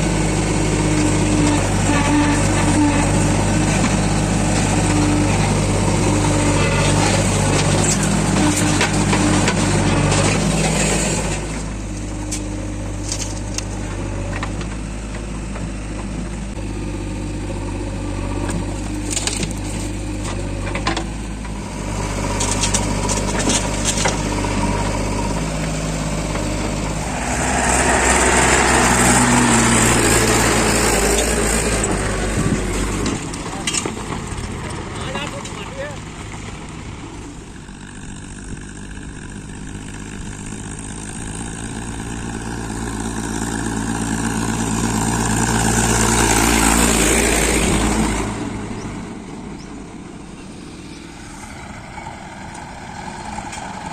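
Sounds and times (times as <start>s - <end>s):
diesel engine working: 0.0s - 53.9s.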